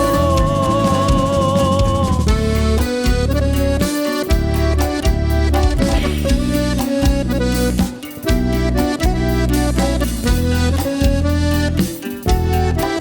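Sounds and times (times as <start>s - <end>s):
accordion melody: 0.0s - 13.0s
rhythmic bass line: 0.0s - 13.0s.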